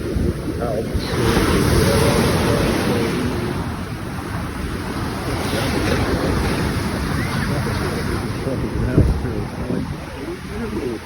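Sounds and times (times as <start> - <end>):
ocean surf washing in: 0.0 - 11.0
wind buffeting microphone: 0.0 - 11.0.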